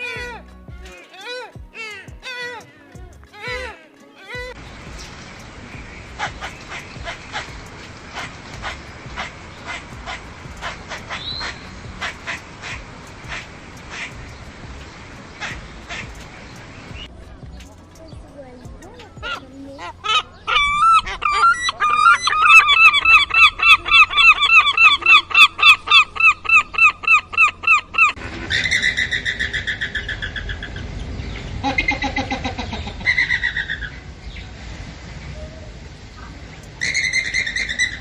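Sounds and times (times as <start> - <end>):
bird calls: 0.0 - 34.5, 35.2 - 38.0.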